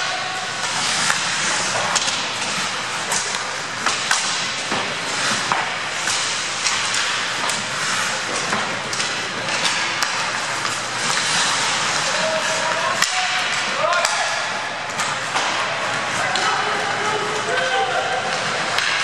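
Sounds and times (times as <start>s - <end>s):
skate blades scraping ice: 0.0s - 19.0s
sticks and puck clacking: 0.0s - 19.0s.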